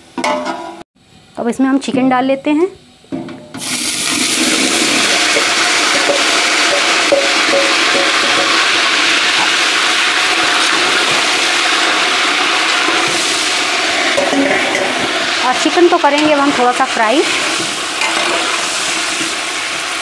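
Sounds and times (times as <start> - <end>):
chicken sizzling in hot oil: 3.6 - 20.0.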